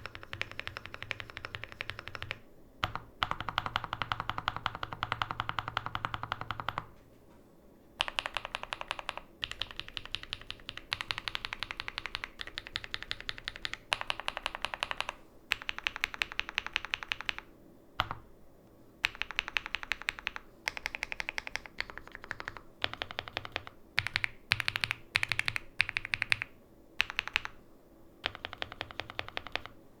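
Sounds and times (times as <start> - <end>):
fast mechanical keyboard typing: 0.0 - 6.9, 8.0 - 18.2, 19.0 - 27.6, 28.2 - 29.8.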